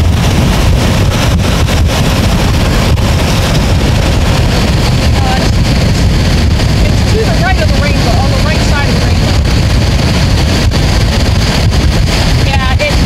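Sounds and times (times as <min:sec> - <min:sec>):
car road and engine noise: 0:00.0 - 0:13.0
wind buffeting microphone: 0:00.0 - 0:13.0.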